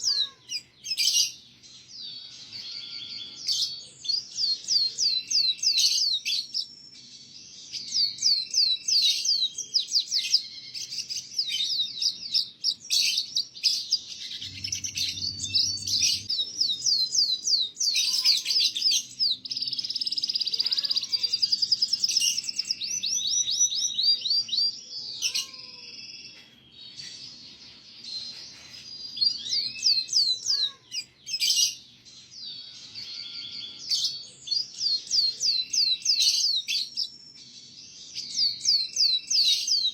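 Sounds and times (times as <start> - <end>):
canary singing trilling song: 0.0 - 39.9.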